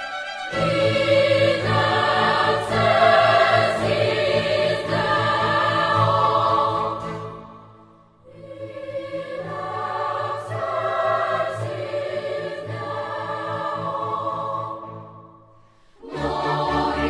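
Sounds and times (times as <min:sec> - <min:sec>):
choir singing sustained chords: 0:00.5 - 0:17.0.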